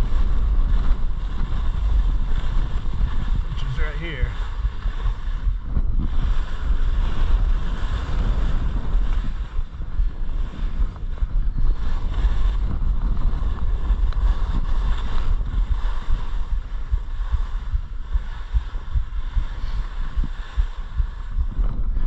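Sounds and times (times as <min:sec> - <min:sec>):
skis scraping on snow: 0:00.0 - 0:22.0
wind buffeting microphone: 0:00.0 - 0:22.0.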